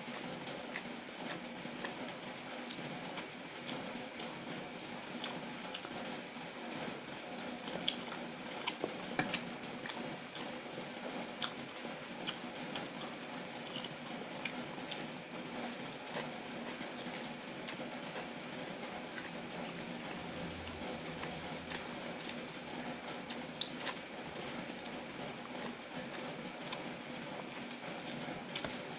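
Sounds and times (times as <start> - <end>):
chewing and slurping: 0.0 - 4.4, 7.6 - 28.9
steady low hum: 0.0 - 28.9.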